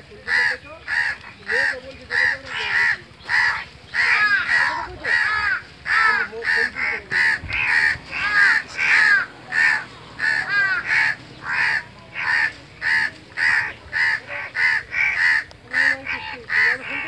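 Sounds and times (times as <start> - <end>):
crows cawing: 0.1 - 17.0.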